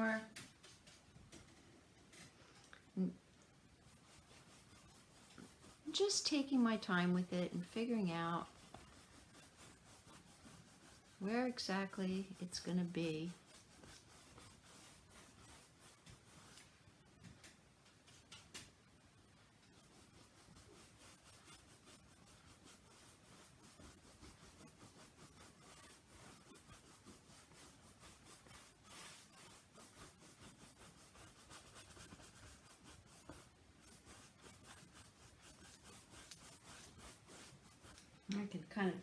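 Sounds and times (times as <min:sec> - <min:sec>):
paintbrush rubbing on canvas: 0:00.1 - 0:01.4, 0:03.0 - 0:16.8, 0:19.6 - 0:39.0.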